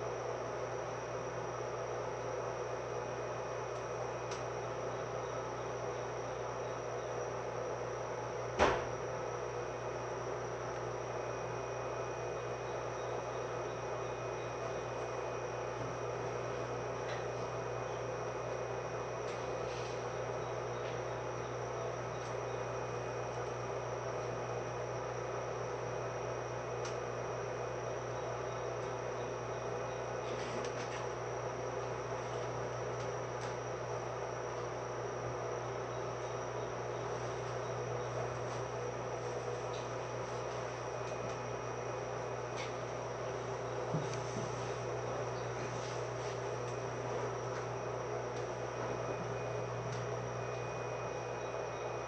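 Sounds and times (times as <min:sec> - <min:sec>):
electrical hum inside train: 0:00.0 - 0:52.0.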